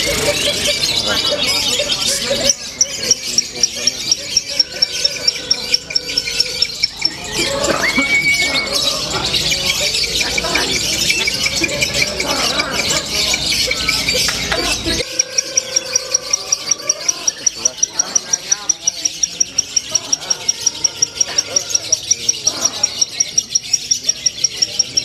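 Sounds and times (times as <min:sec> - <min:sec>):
lovebirds squealing and chattering: 0:00.0 - 0:25.0
rapid bird chirps: 0:00.0 - 0:25.0.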